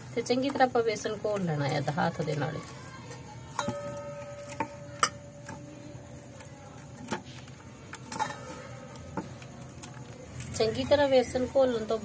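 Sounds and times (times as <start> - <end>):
hand stirring batter: 0.0 - 12.0.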